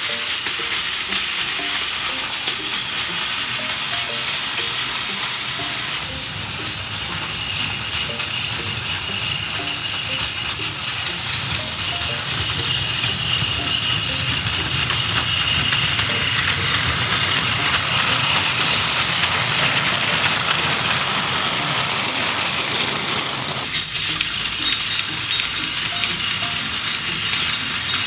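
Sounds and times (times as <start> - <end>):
plastic wheels rattling on track: 0.0 - 28.0
toy train motor whine: 0.0 - 28.0.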